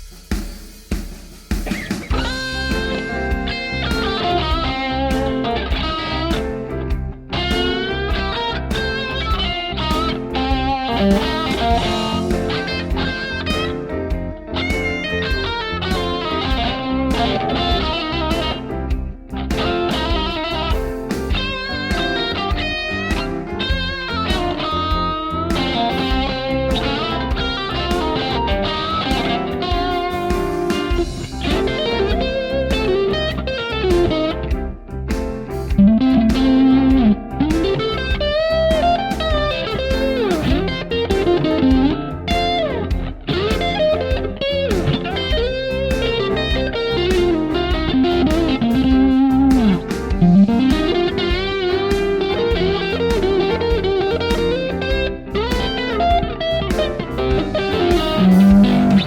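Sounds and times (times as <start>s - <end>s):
electric guitar playing blues: 1.6s - 59.0s.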